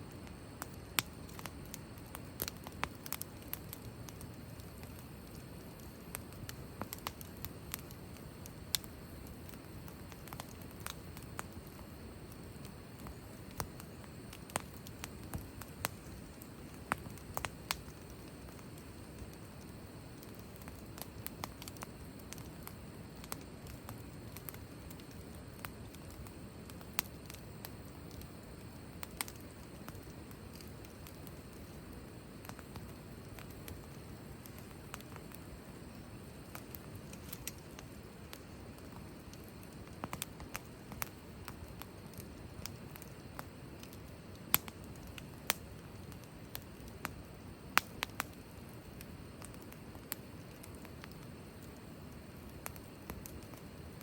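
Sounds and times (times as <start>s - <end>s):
low rush of flame: 0.0s - 54.0s
wood fire crackling: 0.0s - 54.0s.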